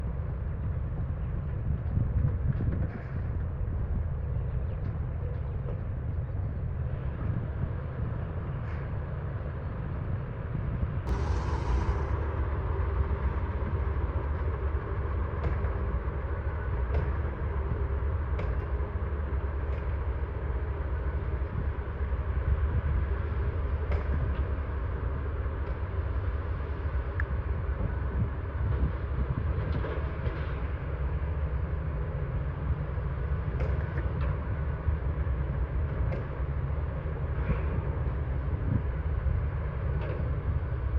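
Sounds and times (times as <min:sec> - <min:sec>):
heavy machinery low rumble: 0:00.0 - 0:40.9.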